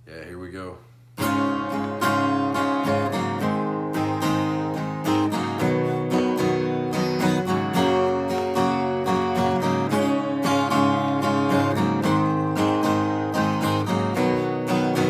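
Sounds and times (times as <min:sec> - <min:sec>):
acoustic guitar strumming: 0:01.2 - 0:15.0.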